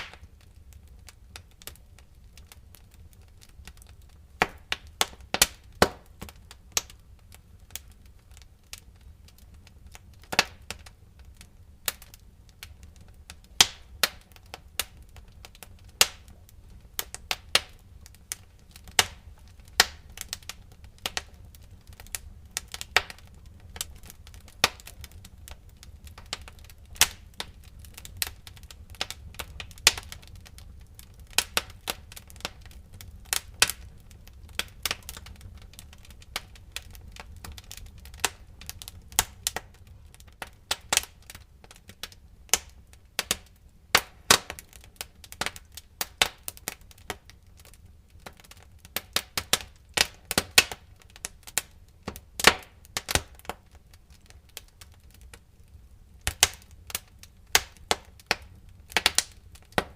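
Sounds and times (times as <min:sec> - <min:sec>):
sharp pops and snaps: 0:00.0 - 0:00.4, 0:02.4 - 0:07.0, 0:08.7 - 0:16.4, 0:17.0 - 0:39.7, 0:40.4 - 0:47.3, 0:48.2 - 0:55.0, 0:56.2 - 0:59.9
low rumble of flames: 0:00.0 - 0:59.9
wood fire crackling: 0:00.0 - 0:59.9.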